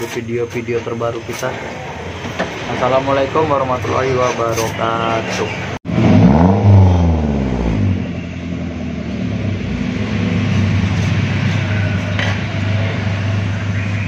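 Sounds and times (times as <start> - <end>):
car engine idling: 1.8 - 14.0
engine revving: 1.8 - 14.0.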